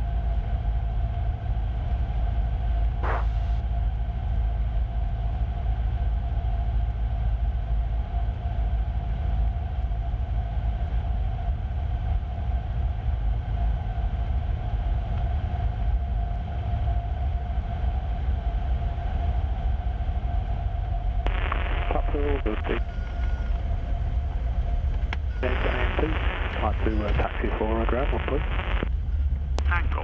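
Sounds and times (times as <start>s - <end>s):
aircraft engine and propeller drone: 0.0s - 30.0s
faint steady hum: 0.0s - 30.0s.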